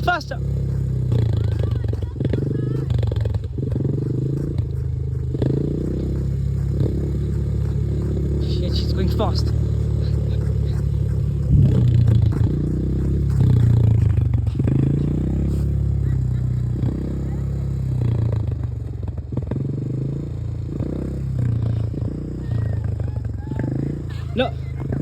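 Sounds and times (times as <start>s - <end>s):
small vehicle engine running: 0.0s - 25.0s.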